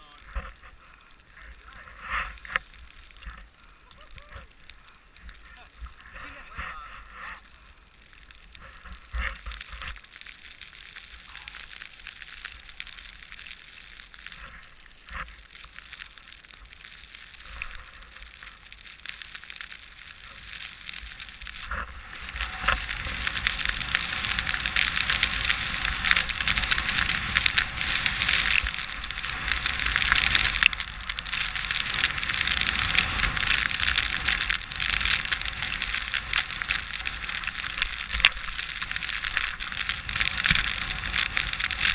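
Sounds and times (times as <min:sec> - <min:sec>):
skis hissing over snow: 0:00.0 - 0:41.9.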